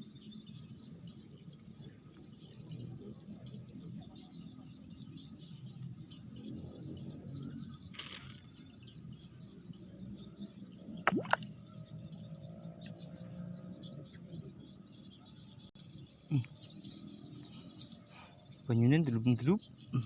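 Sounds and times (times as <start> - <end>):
crickets and insects chorus: 0.0 - 20.0.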